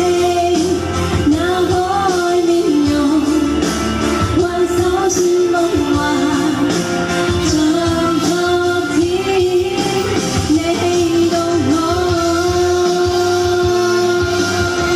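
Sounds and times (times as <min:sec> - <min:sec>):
backing track with steady beat: 0:00.0 - 0:14.9
woman singing pop song: 0:00.0 - 0:14.9.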